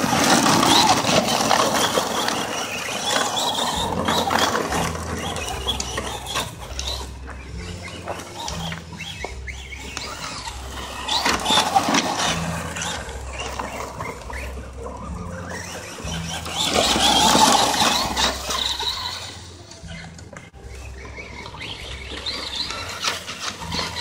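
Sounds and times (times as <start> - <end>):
electric motor whining: 0.0 - 24.0
tyres crunching over gravel: 0.0 - 24.0.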